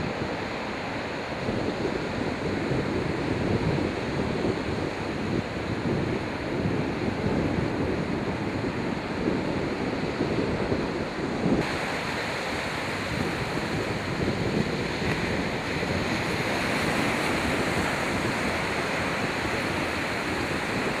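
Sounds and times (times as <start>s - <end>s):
sea waves washing: 0.0s - 21.0s
wind buffeting microphone: 0.0s - 21.0s.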